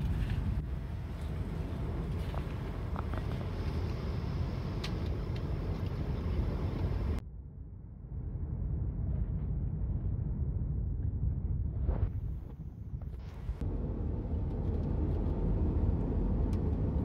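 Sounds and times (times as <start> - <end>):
airliner cabin rumble: 0.0 - 7.2, 8.1 - 17.0.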